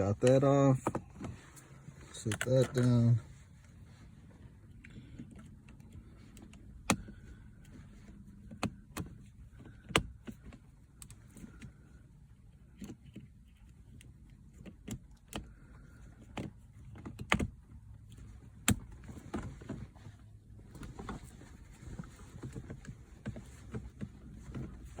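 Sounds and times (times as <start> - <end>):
light clicks and knocks of trim parts: 0.0 - 25.0.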